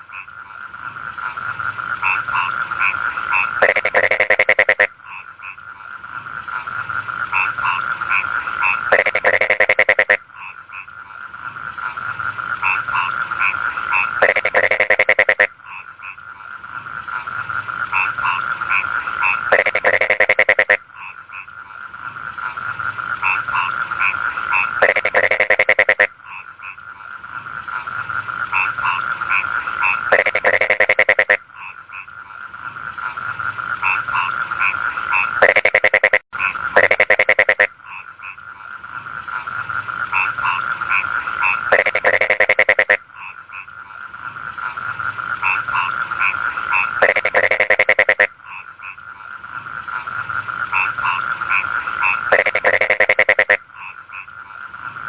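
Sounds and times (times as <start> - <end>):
steady frog trill: 0.0 - 5.8, 6.6 - 11.0, 11.7 - 16.3, 17.5 - 21.6, 22.3 - 27.0, 27.7 - 32.3, 32.9 - 38.7, 39.3 - 54.8
frogs croaking chorus: 0.0 - 55.0
loud rasping frog croak: 0.0 - 55.0.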